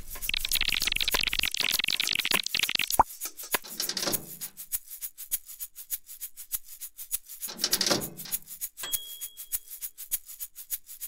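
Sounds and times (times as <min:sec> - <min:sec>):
music with fast shaker rhythm: 0:00.0 - 0:11.0.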